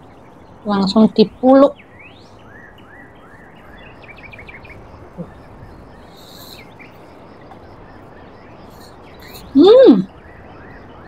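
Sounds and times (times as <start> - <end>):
small bird chirping: 0.0 - 11.0
steady background hiss: 0.0 - 11.0.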